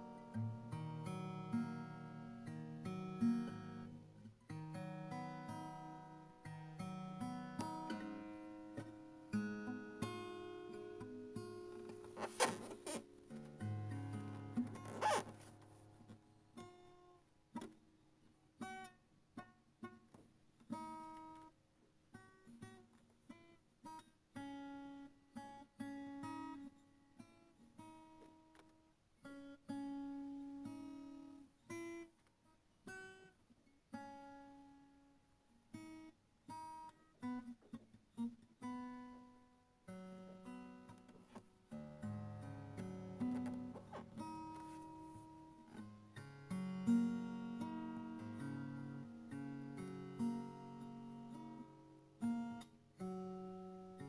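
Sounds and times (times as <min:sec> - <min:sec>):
faint acoustic guitar music: 0:00.0 - 0:54.0.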